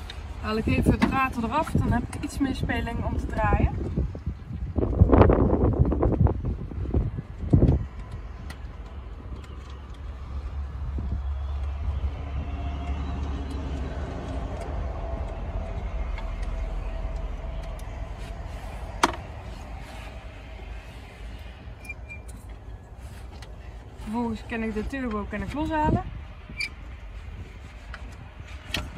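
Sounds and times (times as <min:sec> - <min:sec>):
low steady rumble: 0:00.0 - 0:28.9.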